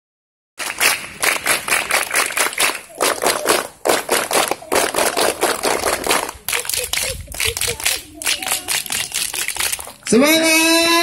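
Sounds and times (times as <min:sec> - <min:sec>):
children clapping hands: 0:00.6 - 0:10.0.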